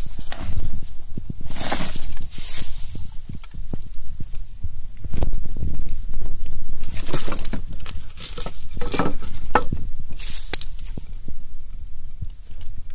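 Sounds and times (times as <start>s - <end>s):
handling noise and rustling: 0.0s - 11.3s.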